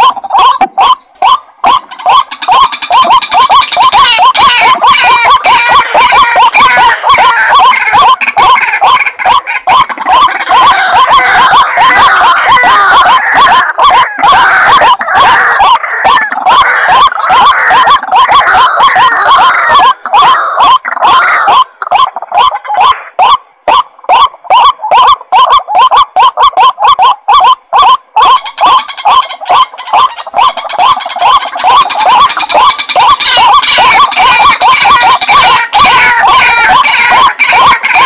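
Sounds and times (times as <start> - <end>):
waterhen calling: 0.0 - 38.0.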